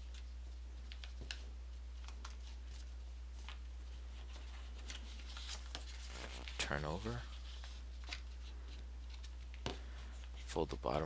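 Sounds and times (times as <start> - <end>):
paper crinkling: 0.0 - 11.0
steady low hum: 0.0 - 11.0.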